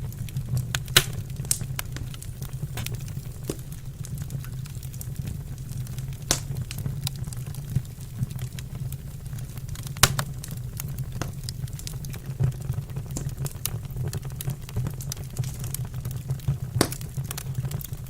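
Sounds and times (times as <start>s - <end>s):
sharp fire pops: 0.0s - 13.8s, 16.7s - 17.9s
wood fire crackling: 0.0s - 18.0s.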